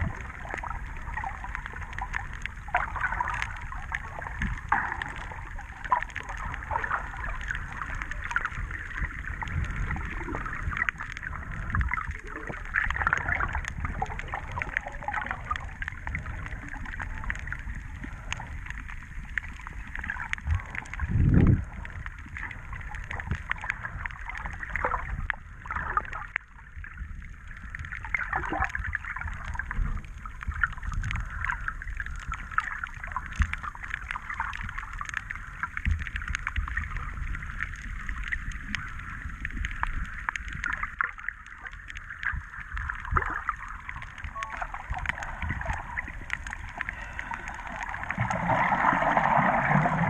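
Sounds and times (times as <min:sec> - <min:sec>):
water sloshing and gurgling: 0:00.0 - 0:50.0.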